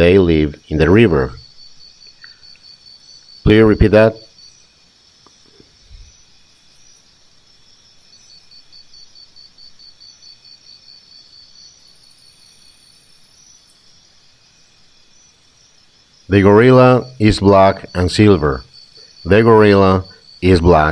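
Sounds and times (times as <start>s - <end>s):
high-pitched insect chirping: 0.0s - 20.9s
low hiss: 0.0s - 20.9s.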